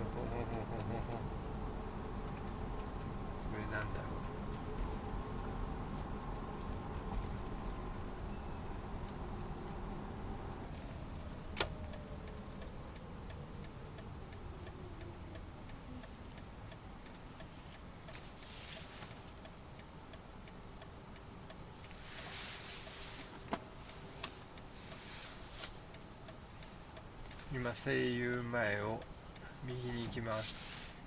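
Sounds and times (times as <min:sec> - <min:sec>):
turn signal ticking: 0:00.0 - 0:30.4
quiet road noise: 0:00.0 - 0:31.0.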